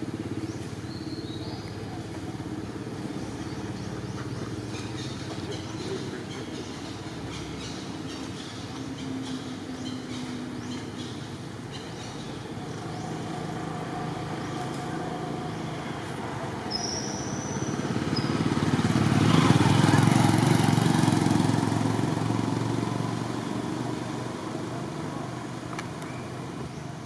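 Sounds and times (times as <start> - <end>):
road noise: 0.0 - 27.0
vehicle engine: 0.0 - 27.0.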